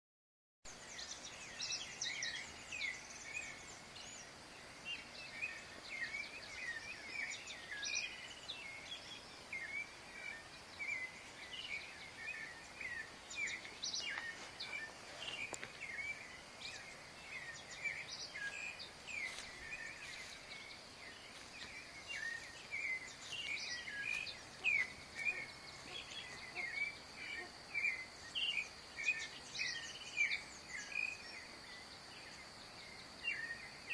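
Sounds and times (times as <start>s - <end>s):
birds chirping and singing: 0.7s - 33.9s
high-pitched insect hum: 0.8s - 33.9s.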